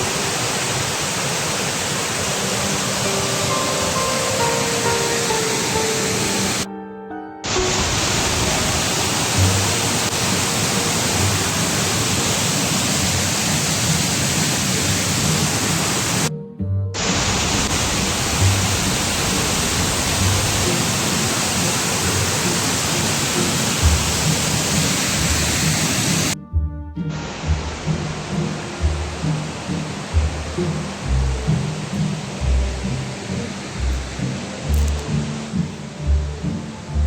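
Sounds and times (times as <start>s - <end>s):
waterfall rushing: 0.0s - 6.7s, 7.4s - 16.3s, 17.0s - 26.4s, 27.1s - 37.0s.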